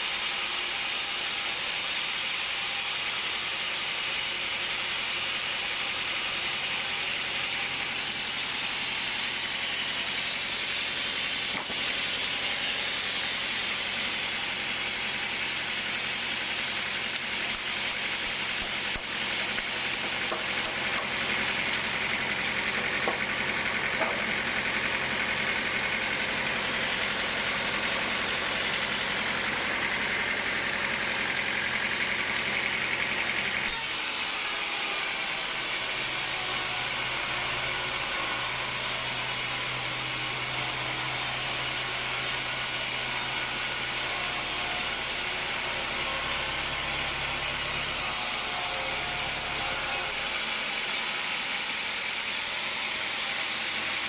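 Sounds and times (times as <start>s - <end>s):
engine running with hum and hiss: 0.0s - 54.0s.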